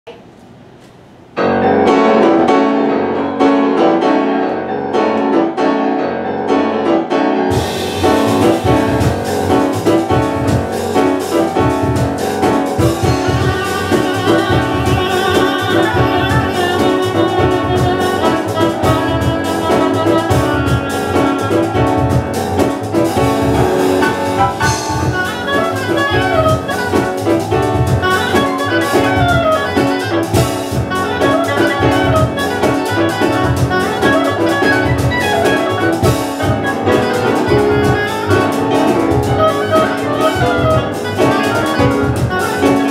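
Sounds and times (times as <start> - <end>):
piano: 0.0 - 42.9
jazz band playing: 1.4 - 42.9
double bass: 7.5 - 42.9
percussion: 7.5 - 42.9.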